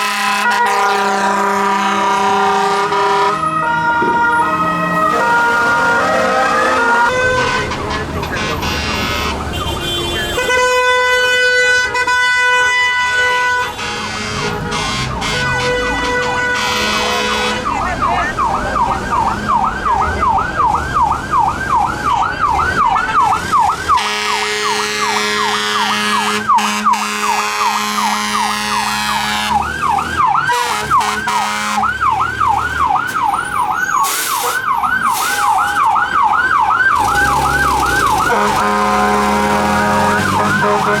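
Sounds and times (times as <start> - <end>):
fire truck siren yelp: 0.0 - 41.0
truck engines running: 0.0 - 41.0.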